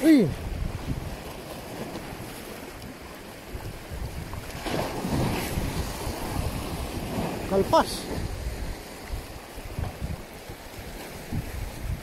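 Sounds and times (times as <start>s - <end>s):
sea waves washing: 0.0s - 12.0s
wind buffeting microphone: 0.0s - 12.0s.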